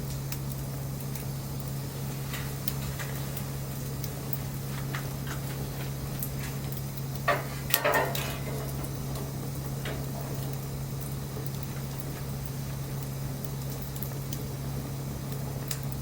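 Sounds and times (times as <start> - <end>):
steady low hum: 0.0 - 16.0
wood fire crackling: 0.0 - 16.0.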